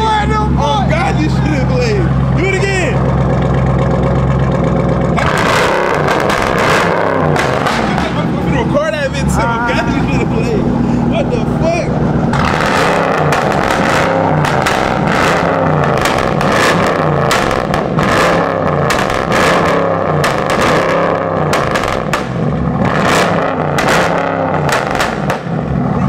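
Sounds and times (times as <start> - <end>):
car engine running hard: 0.0 - 26.0.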